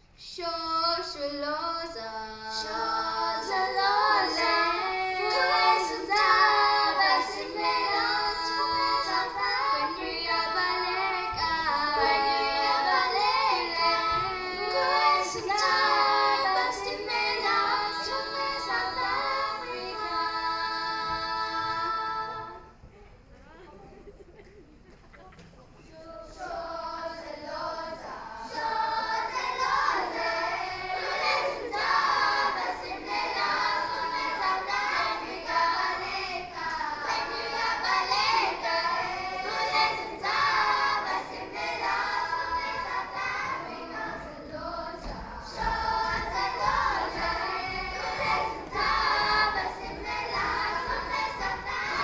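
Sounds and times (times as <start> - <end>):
children's choir singing: 0.0 - 22.9, 25.4 - 52.0.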